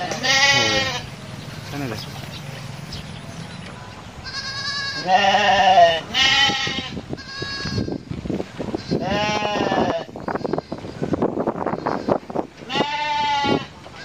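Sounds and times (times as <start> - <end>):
young goats bleating: 0.0 - 2.2, 4.2 - 14.0.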